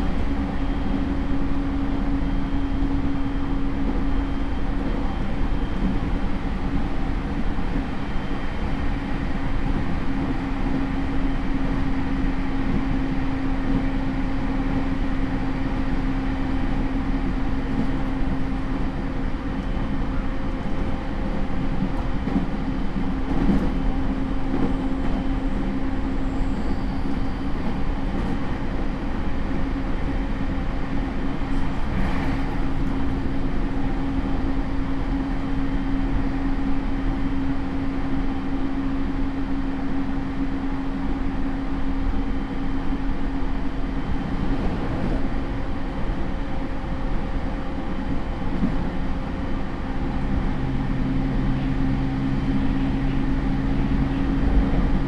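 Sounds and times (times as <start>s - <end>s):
train motor hum: 0.0s - 55.0s
wheel and rail rumble: 0.0s - 55.0s.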